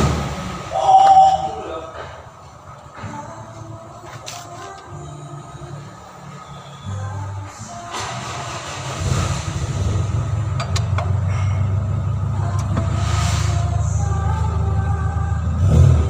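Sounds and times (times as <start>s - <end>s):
low engine-like rumble: 0.0s - 16.0s.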